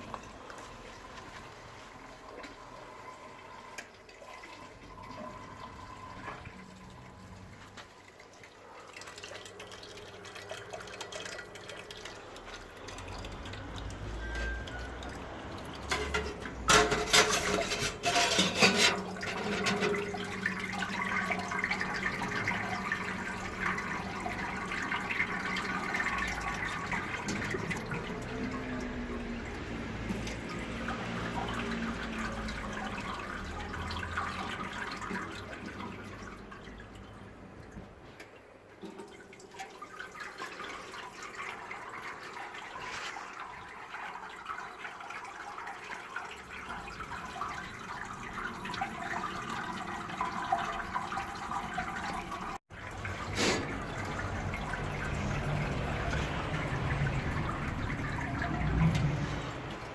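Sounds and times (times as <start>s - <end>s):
water running and splashing: 0.0s - 59.9s.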